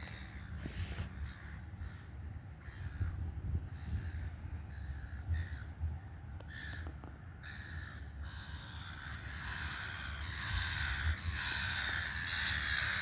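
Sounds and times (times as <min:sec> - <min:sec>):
birds calling harshly: 0:00.0 - 0:05.8, 0:06.4 - 0:13.0.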